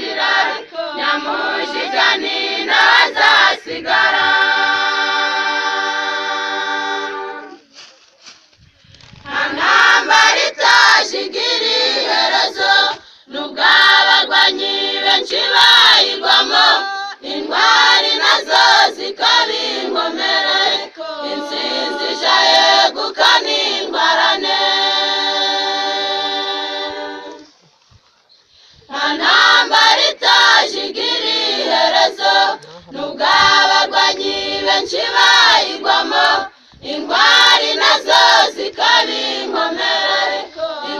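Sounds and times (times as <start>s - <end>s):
choir singing unaccompanied: 0.0s - 7.7s, 9.2s - 27.6s, 28.8s - 40.9s.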